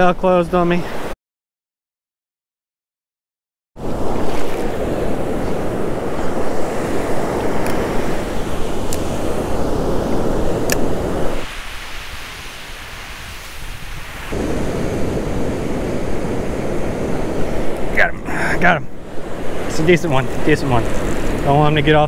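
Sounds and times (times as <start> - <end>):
ocean surf washing up beach: 3.8 - 22.0
wind buffeting microphone: 3.8 - 22.0.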